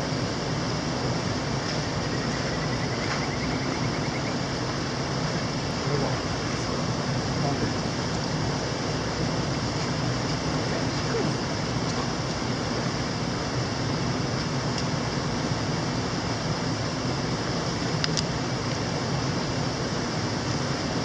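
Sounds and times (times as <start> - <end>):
mountain stream rushing: 0.0 - 21.0.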